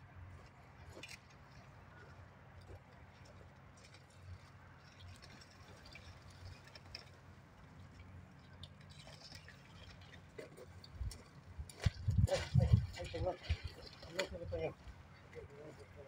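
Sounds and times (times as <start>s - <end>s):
leaves rustling and ticking: 0.3s - 16.0s.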